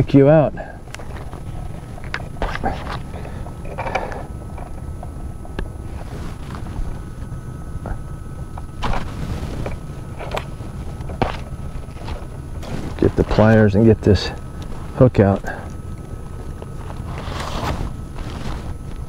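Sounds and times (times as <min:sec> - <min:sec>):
rustling: 0:00.9 - 0:19.0.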